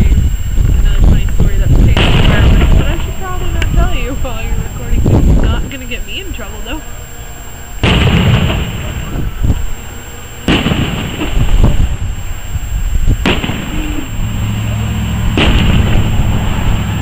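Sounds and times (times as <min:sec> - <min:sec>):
fireworks booming: 0:00.0 - 0:17.0
low steady hum: 0:00.0 - 0:17.0
rolling rumble: 0:00.0 - 0:17.0.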